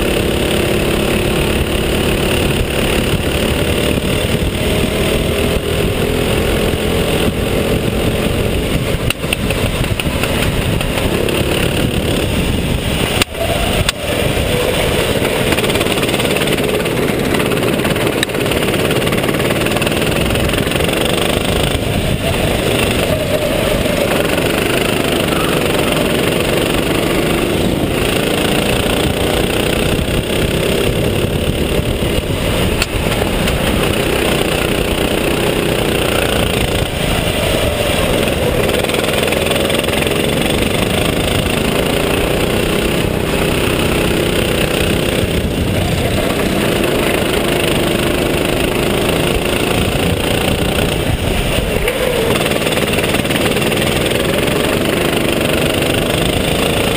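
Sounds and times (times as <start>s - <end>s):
kart engine revving: 0.0s - 56.9s
wind noise: 0.0s - 56.9s.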